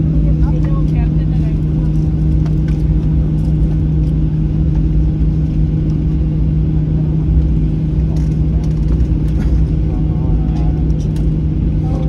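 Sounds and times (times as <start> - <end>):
airliner cabin rumble: 0.0 - 12.0
jet engines idling hum: 0.0 - 12.0.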